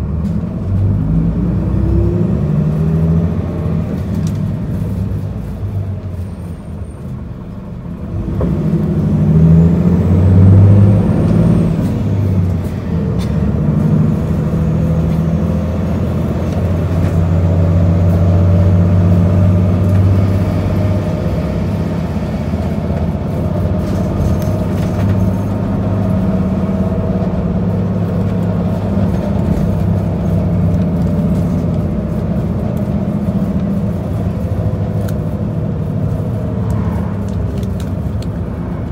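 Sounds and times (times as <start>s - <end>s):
bus diesel engine: 0.0s - 38.9s
tyre and road noise: 0.0s - 38.9s.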